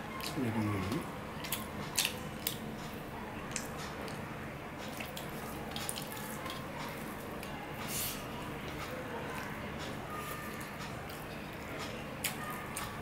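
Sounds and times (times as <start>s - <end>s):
food chewing: 0.1s - 13.0s.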